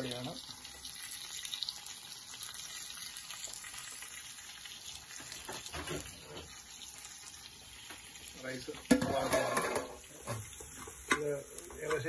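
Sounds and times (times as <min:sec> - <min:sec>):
pot boiling with bubbling hiss: 0:00.0 - 0:12.0.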